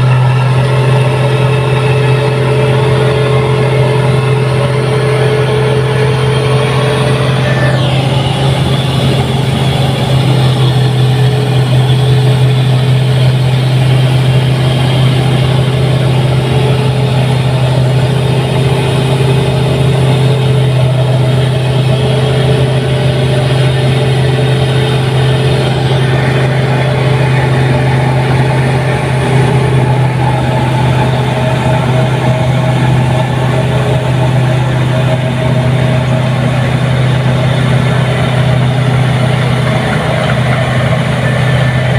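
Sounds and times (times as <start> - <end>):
combine harvester engine drone: 0.0 - 41.9.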